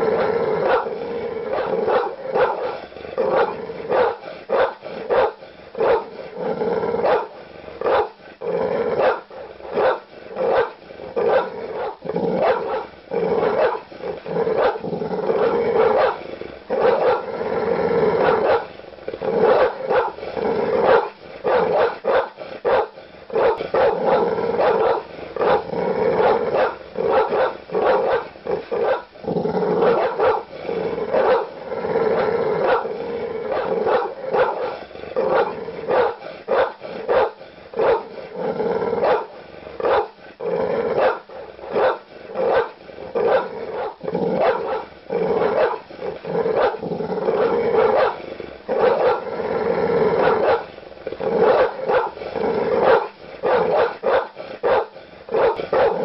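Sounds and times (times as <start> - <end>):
large dog barking: 0.0 - 17.3, 18.0 - 40.2, 40.8 - 56.0.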